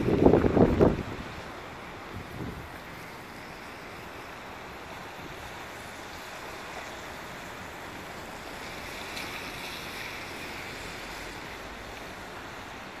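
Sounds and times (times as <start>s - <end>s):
rain falling on wet road: 0.0s - 13.0s.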